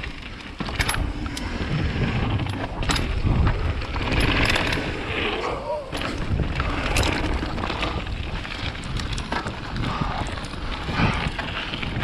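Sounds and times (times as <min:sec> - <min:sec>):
bike rattling over rough trail: 0:00.0 - 0:12.0
wind on microphone: 0:00.8 - 0:12.0.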